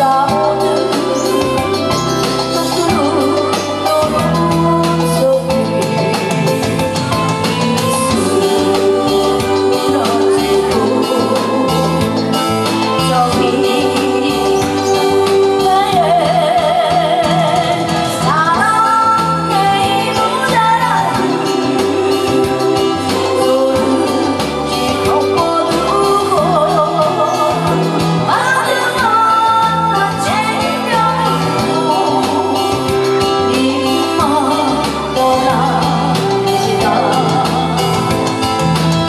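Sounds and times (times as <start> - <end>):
backing music with steady beat: 0.0 - 39.0
woman singing into a microphone: 0.0 - 39.0.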